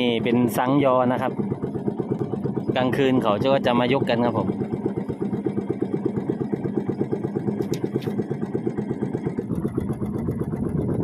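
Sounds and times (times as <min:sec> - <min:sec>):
small boat engine puttering: 0:00.0 - 0:11.0.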